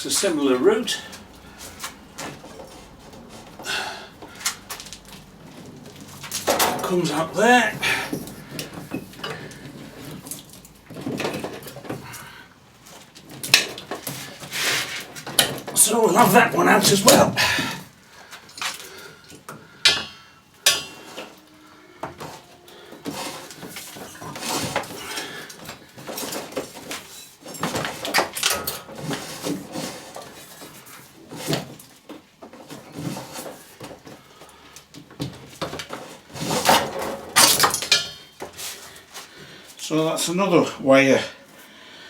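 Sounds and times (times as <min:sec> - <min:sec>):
cable scraping and clattering: 0:00.0 - 0:19.4, 0:20.6 - 0:40.4.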